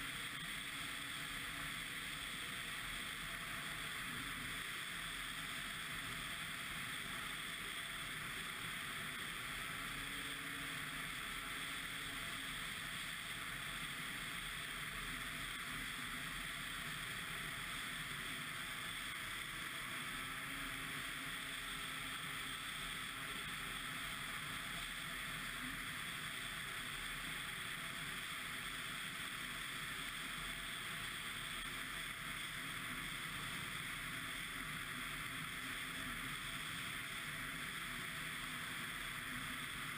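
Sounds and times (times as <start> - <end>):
snowmobile engine drone: 0.0 - 39.9.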